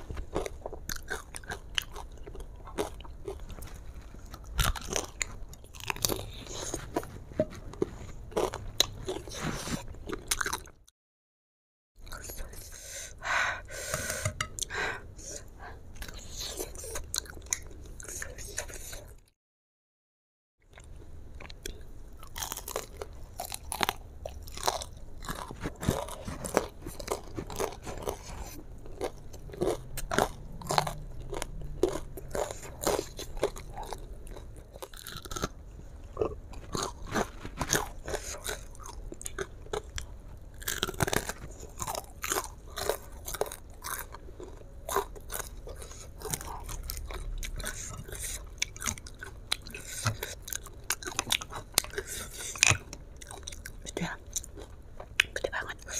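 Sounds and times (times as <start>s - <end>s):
crunching fried chicken: 0.0s - 10.8s, 20.7s - 55.5s
chewing: 0.0s - 10.9s, 16.0s - 19.3s, 20.7s - 55.9s.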